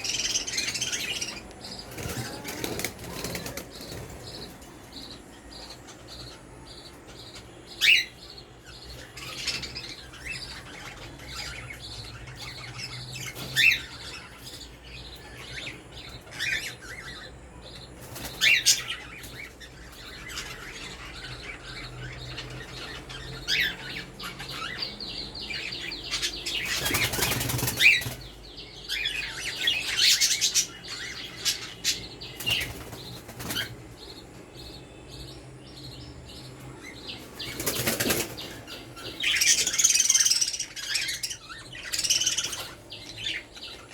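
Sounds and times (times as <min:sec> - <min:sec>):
budgerigars chirping: 0:00.0 - 0:43.9.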